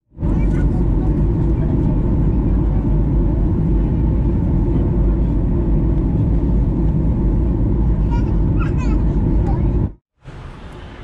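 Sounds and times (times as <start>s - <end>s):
jet engines rumbling: 0.1s - 11.0s.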